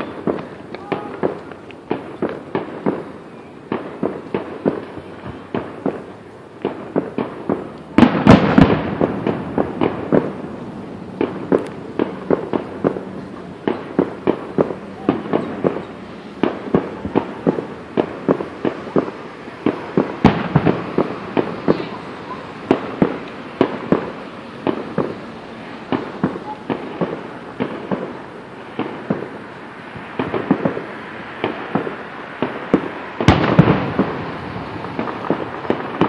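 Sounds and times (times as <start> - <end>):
fireworks booming: 0.0 - 36.0
fireworks crackling and popping: 0.0 - 36.0.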